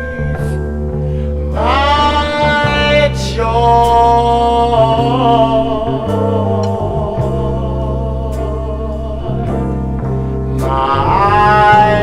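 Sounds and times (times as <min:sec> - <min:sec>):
steady bass backing: 0:00.0 - 0:12.0.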